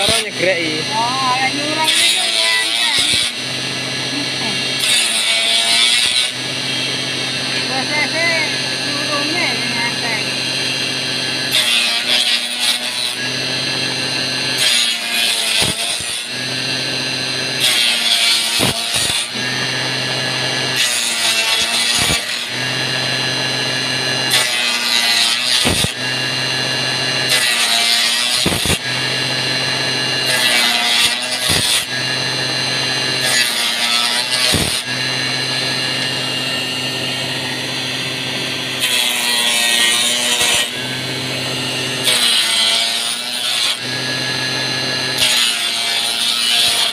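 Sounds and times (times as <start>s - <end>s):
motor humming: 0.0s - 45.4s
harsh rasping wood cut: 0.0s - 46.9s.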